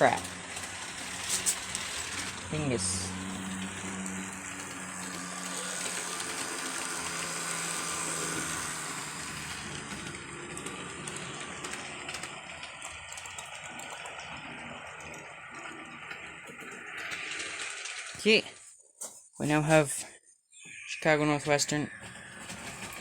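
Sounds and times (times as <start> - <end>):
model train motor humming: 0.0 - 18.4, 21.5 - 23.0
wheels clicking over rail joints: 0.0 - 18.6, 22.0 - 23.0.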